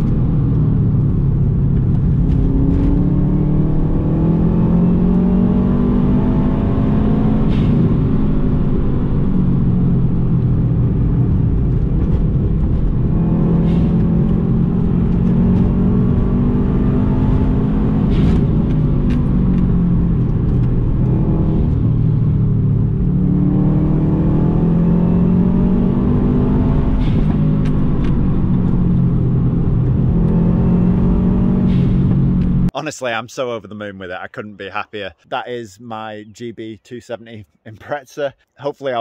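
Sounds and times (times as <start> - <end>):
car engine accelerating: 0.0 - 32.7
road noise: 0.0 - 39.0.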